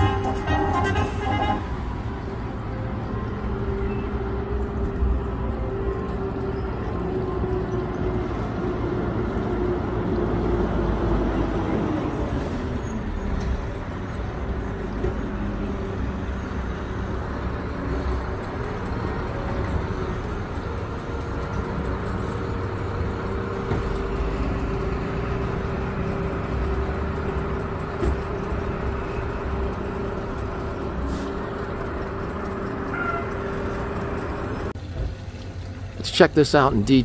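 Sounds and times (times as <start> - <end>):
vehicles driving past: 0.0 - 37.0.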